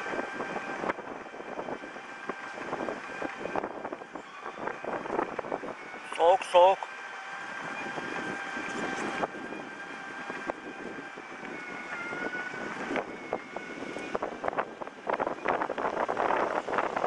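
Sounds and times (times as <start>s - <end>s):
faint steady tones: 0.0s - 17.0s
traffic noise: 0.0s - 17.0s
wind on microphone: 0.0s - 17.0s.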